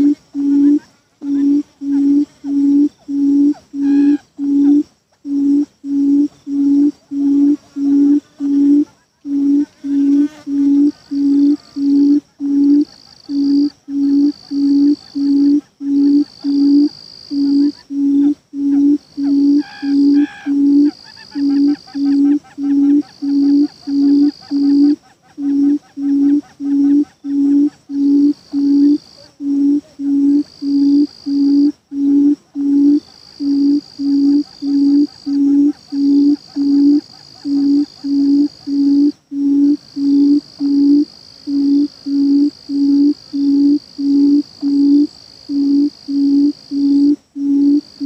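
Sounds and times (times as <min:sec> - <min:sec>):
bird hooting: 0:00.0 - 0:48.0
insects buzzing: 0:00.0 - 0:48.0.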